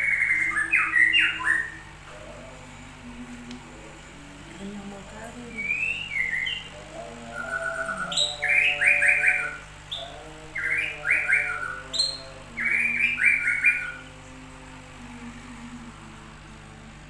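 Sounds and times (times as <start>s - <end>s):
songbird singing: 0.0s - 15.8s.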